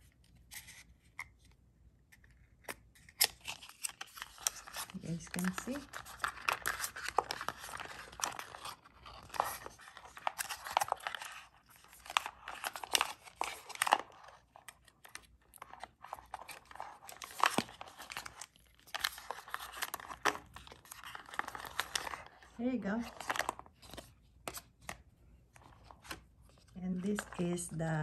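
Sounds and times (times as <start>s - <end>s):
paper packaging rustling: 2.2s - 28.0s.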